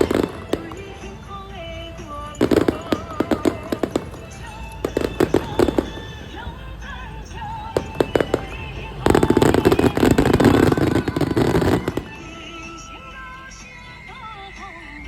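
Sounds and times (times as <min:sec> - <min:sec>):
fireworks cracking: 0:00.0 - 0:14.2
music playing: 0:00.0 - 0:15.0.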